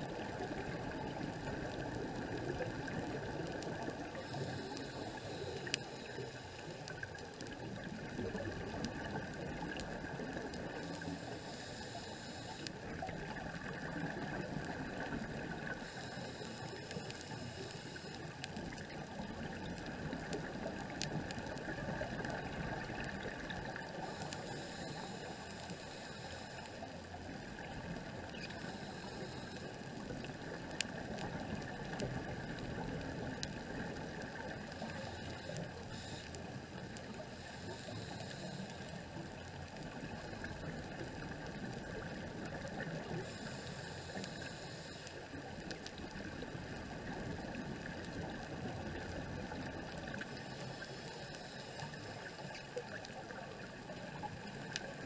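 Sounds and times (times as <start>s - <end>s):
underwater rush: 0.0s - 54.9s
scuba regulator bubbles: 0.0s - 55.0s.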